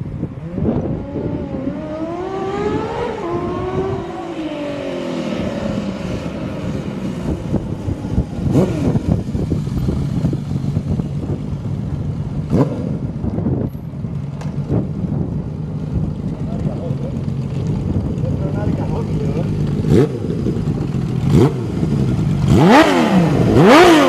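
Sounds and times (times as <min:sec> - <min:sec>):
motorcycle engine revving: 0:00.2 - 0:24.0.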